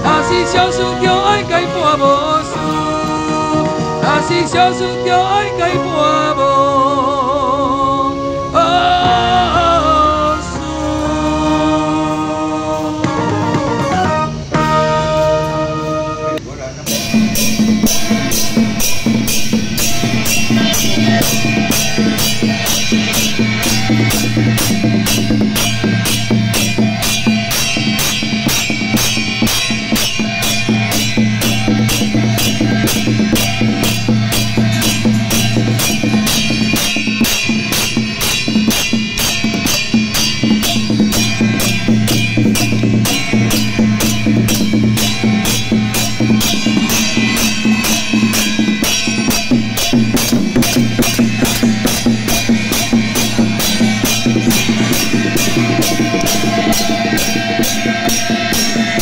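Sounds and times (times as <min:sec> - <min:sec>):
instrumental song with drum beat: 0:00.0 - 0:07.4, 0:08.2 - 0:59.0
sustained bass line: 0:00.0 - 0:59.0.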